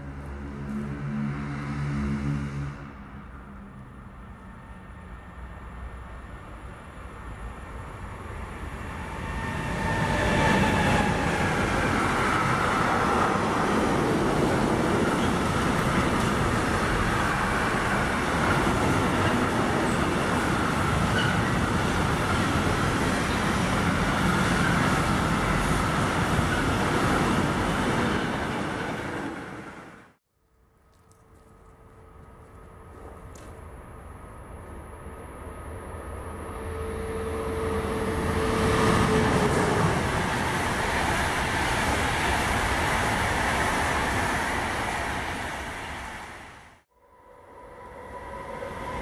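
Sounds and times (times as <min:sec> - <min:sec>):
electric locomotive passing: 0:00.0 - 0:30.2, 0:31.4 - 0:49.0
wheels rumbling on rail: 0:00.0 - 0:30.2, 0:30.8 - 0:46.9.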